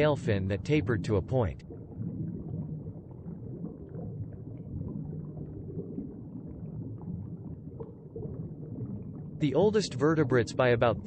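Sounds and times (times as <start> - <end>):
faint bubbles: 0.0 - 11.0
low underwater rumbling wash: 0.0 - 11.0.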